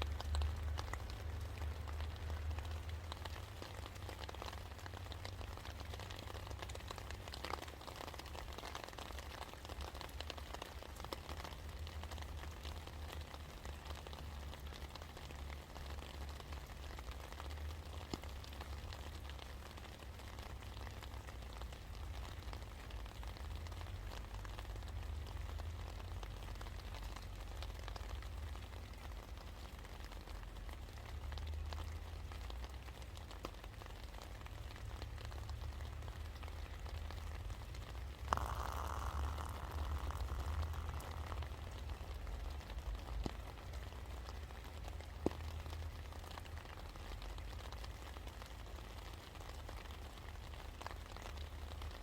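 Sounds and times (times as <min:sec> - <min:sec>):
rain drops pattering: 0:00.0 - 0:52.0.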